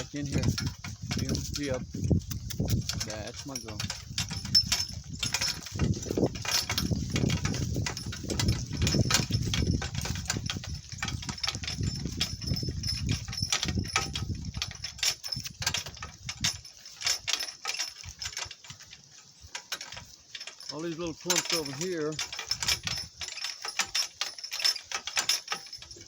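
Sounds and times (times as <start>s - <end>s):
cart rattling and knocking: 0.0s - 26.0s
cart rumbling over rough ground: 0.0s - 26.0s.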